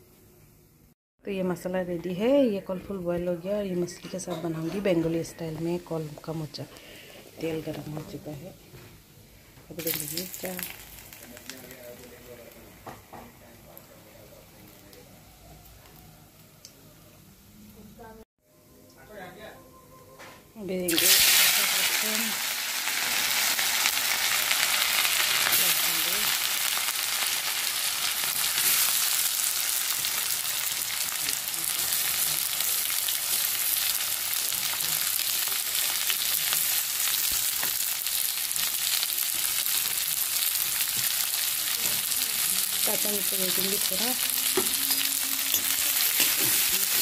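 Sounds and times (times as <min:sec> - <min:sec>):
oil sizzling with frying vegetables: 0:05.0 - 0:18.2, 0:20.8 - 0:47.0.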